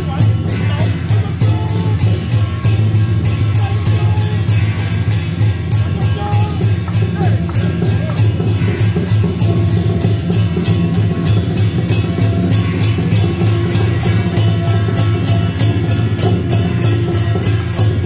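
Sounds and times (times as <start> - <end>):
procession music with drums: 0.0 - 18.0.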